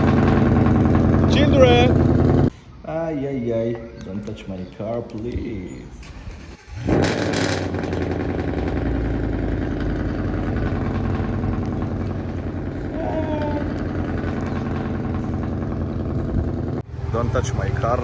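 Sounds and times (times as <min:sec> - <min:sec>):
vehicle engine idling: 0:00.0 - 0:02.5, 0:04.1 - 0:18.0.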